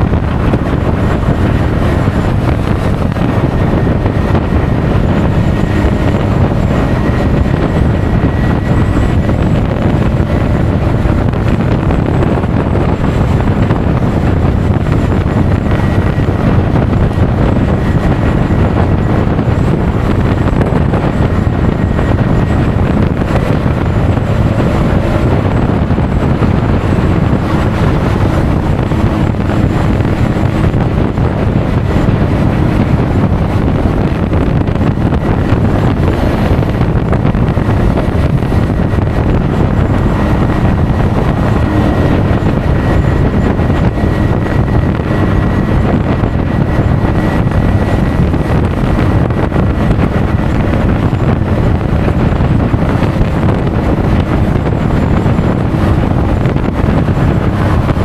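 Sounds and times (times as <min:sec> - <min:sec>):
road noise: 0:00.0 - 0:58.0
wind buffeting microphone: 0:00.0 - 0:58.0.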